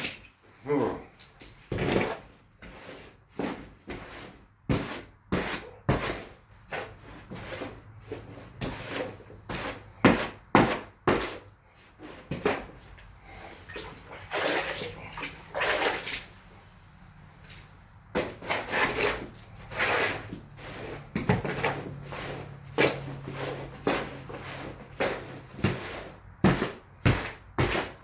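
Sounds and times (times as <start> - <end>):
mortar mix scraping and slapping: 1.0 - 28.0.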